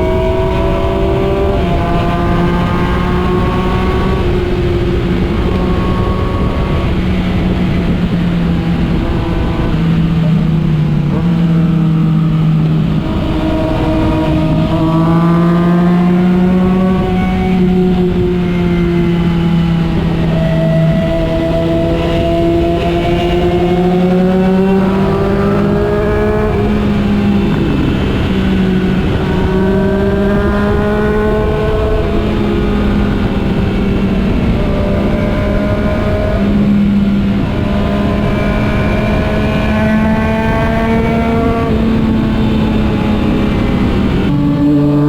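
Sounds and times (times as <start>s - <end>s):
motorcycle engine shifting gears: 0.0s - 45.0s
wind rush: 0.0s - 45.0s.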